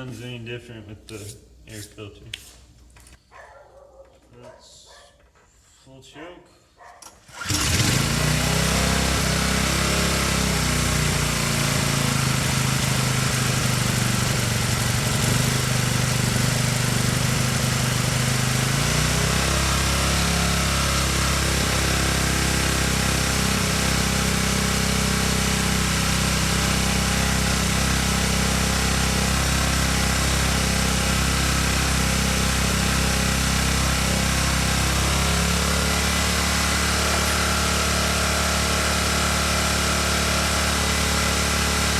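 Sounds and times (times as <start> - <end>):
pressure washer engine running: 7.3 - 41.9.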